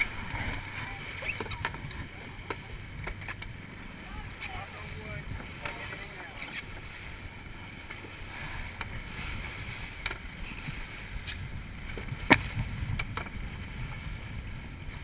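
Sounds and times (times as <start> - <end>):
water rushing along a canoe hull: 0.0 - 15.0
wind buffeting the microphone: 0.0 - 15.0.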